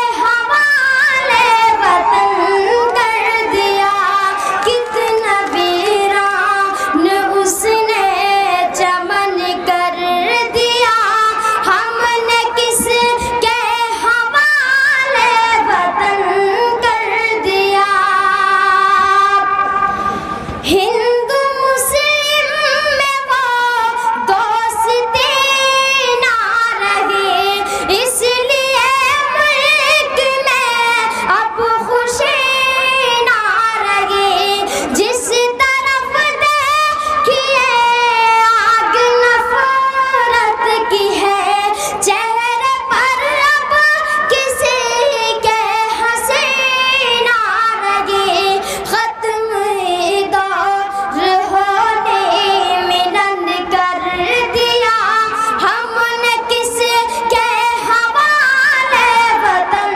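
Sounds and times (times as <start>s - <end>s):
boy singing into a microphone: 0.0s - 59.9s.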